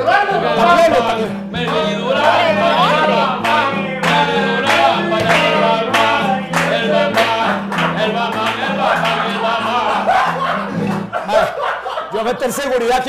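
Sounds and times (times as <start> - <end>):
song with beat and singing: 0.5 - 11.1.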